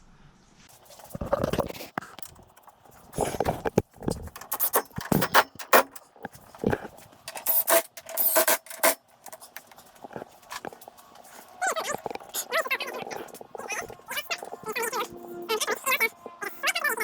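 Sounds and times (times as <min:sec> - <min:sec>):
hand tools and metal parts clinking: 0:01.9 - 0:16.0.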